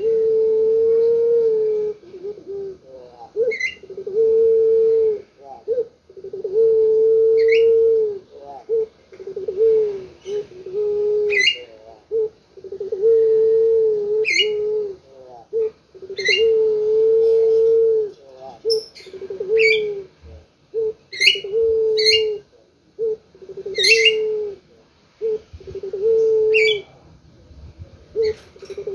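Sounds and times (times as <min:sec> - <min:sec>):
dove cooing: 0:00.0 - 0:27.0, 0:27.8 - 0:28.9.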